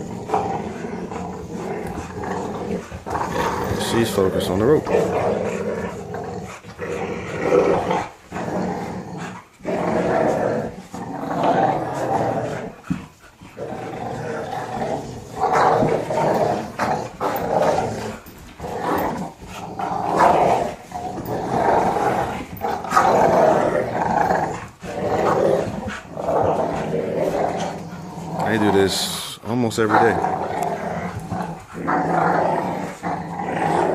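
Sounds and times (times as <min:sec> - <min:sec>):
dogs growling in play: 0:00.0 - 0:33.9.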